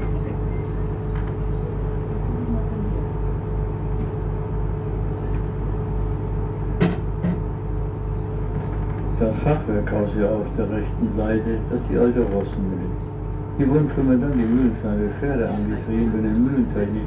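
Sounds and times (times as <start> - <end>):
boat engine throbbing: 0.0 - 17.0.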